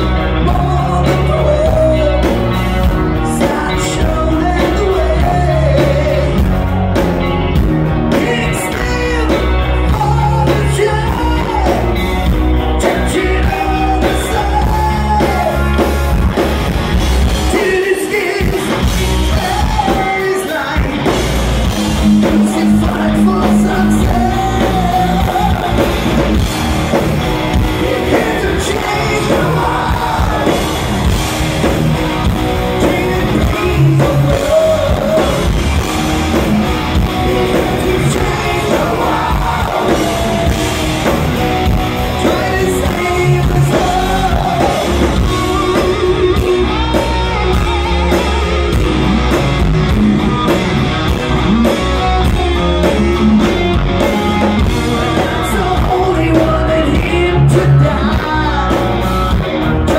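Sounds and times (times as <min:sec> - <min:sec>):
man singing: 0:00.0 - 0:06.7, 0:08.0 - 0:15.8, 0:17.4 - 0:21.3, 0:22.0 - 0:26.5, 0:27.5 - 0:31.2, 0:32.1 - 0:49.1, 0:51.4 - 0:59.9
drums: 0:00.0 - 0:59.9
electric guitars: 0:00.0 - 0:59.9.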